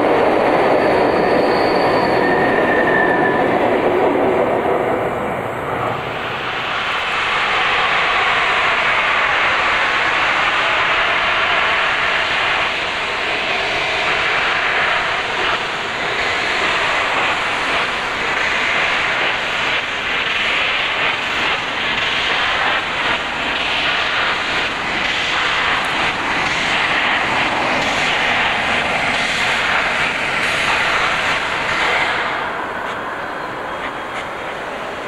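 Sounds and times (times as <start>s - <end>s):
steam train rushing: 0.0s - 35.0s.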